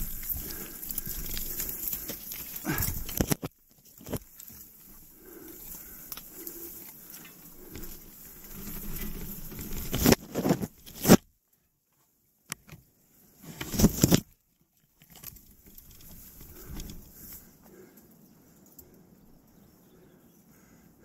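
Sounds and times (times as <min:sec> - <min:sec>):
rustling through overgrown ground: 0:00.0 - 0:21.0.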